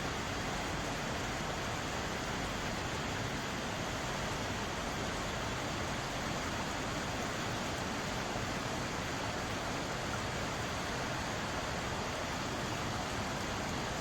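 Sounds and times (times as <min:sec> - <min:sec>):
stream flowing over rocks: 0:00.0 - 0:14.0.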